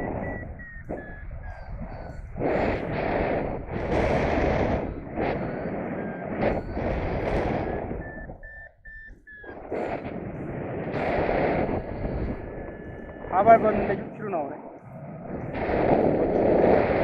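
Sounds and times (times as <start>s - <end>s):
strong wind buffeting microphone: 0.0s - 17.0s
variometer electronic tone and beeps: 0.0s - 17.0s.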